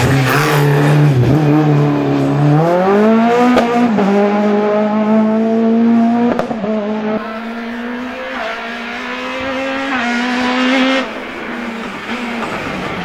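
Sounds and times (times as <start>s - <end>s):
distant race car engine revving: 0.0s - 13.0s
racing car engine at high revs: 0.0s - 13.0s.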